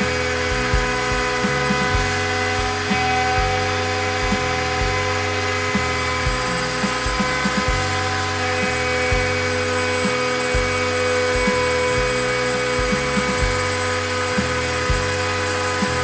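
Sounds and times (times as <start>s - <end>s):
background music with bass: 0.0s - 16.0s
cnc router spindle whine: 0.0s - 16.0s.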